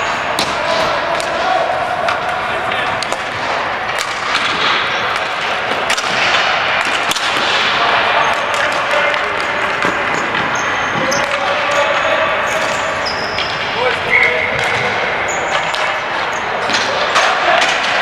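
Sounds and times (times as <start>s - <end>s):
background noise: 0.0s - 18.0s
hockey sticks and ball cracks: 0.0s - 18.0s.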